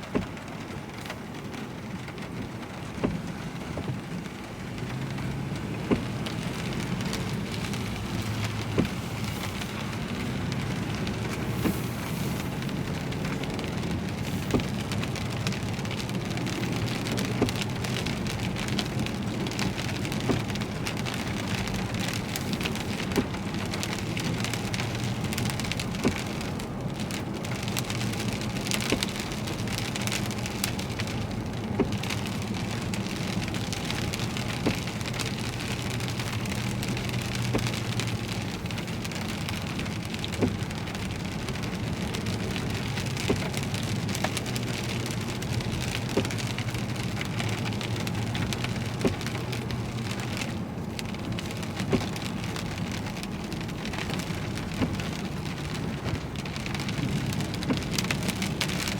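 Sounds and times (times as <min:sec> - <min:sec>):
heavy rain on a car: 0:00.0 - 0:58.9
road and engine noise: 0:00.0 - 0:58.9.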